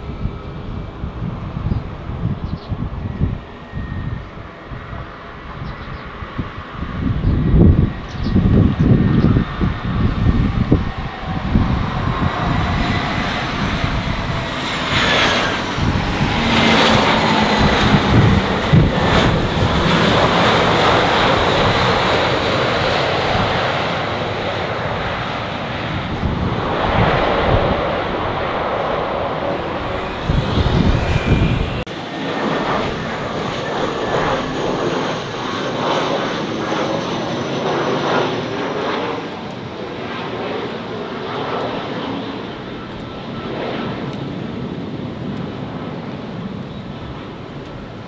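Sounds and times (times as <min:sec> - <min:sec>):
jet airliner engines: 0:00.0 - 0:48.0.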